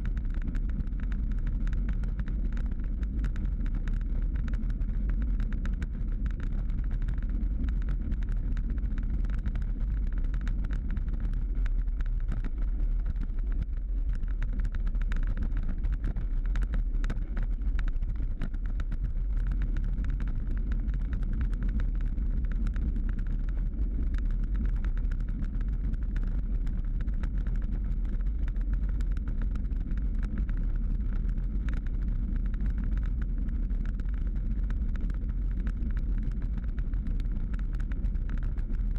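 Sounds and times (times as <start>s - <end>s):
bicycle rattling on rough road: 0.0s - 38.9s
wind rumble: 0.0s - 38.9s.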